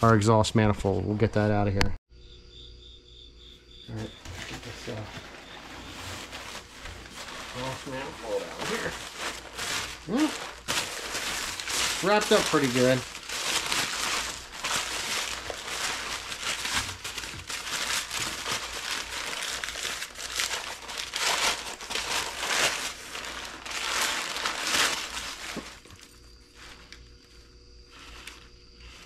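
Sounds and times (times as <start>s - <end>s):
packing paper crumpling: 4.2s - 29.0s.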